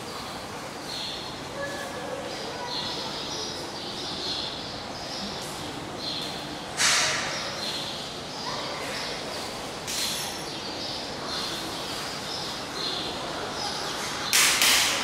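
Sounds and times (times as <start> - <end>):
small birds chirping: 0.1 - 14.5.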